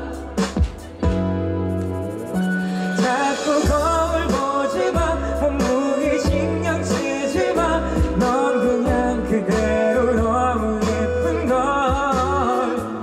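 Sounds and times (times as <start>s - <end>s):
pop band with steady beat: 0.0s - 13.0s.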